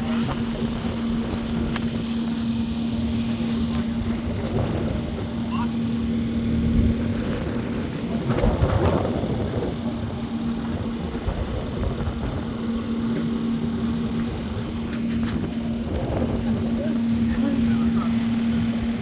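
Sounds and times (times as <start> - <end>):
engine clatter: 0.0 - 19.0
engine idling: 0.0 - 19.0.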